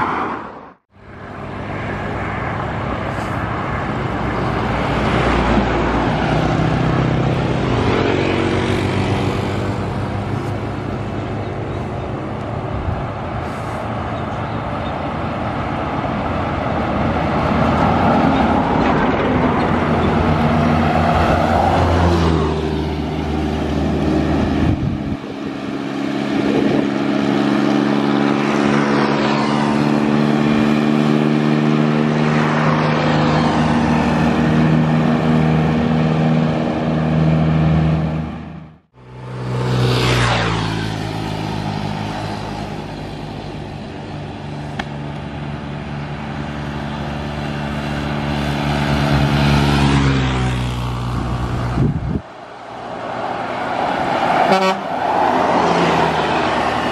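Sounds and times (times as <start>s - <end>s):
steady engine hum: 0.0s - 56.9s
trucks and buses passing: 0.0s - 56.9s.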